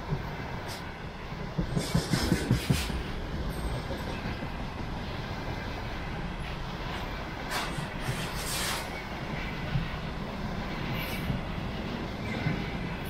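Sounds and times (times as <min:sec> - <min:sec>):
train rolling rumble: 0:00.0 - 0:13.0
train wheels clacking: 0:00.0 - 0:13.0.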